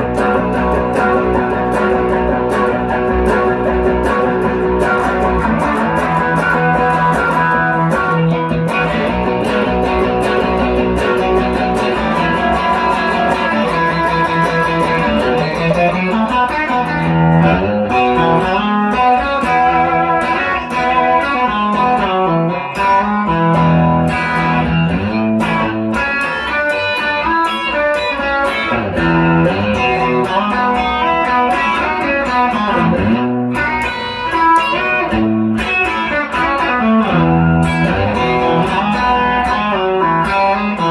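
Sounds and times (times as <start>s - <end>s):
clean electric guitar playing: 0.0s - 40.9s.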